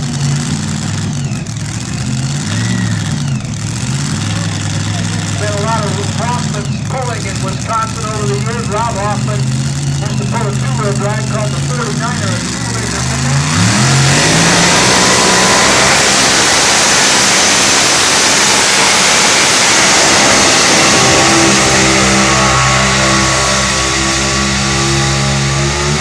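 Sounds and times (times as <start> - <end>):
tractor engine revving loudly: 0.0 - 26.0.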